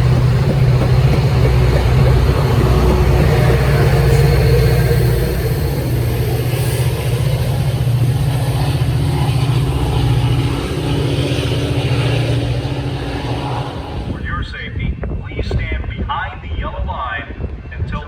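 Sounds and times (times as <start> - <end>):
diesel train engine droning: 0.0 - 16.0.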